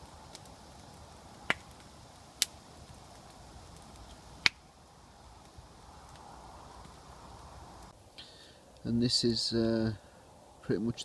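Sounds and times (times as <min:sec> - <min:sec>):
campfire wood popping: 0:00.0 - 0:10.7.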